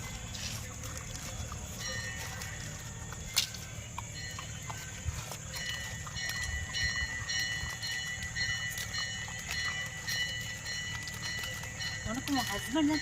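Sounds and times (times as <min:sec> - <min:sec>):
dogs chewing and lapping: 0:00.0 - 0:13.0.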